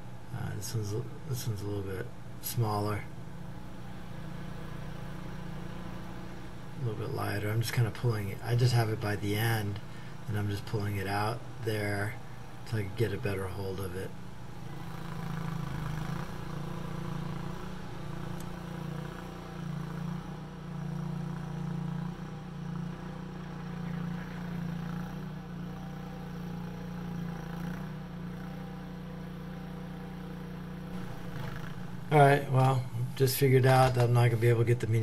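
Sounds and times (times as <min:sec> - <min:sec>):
skid steer engine running: 0:00.0 - 0:35.0.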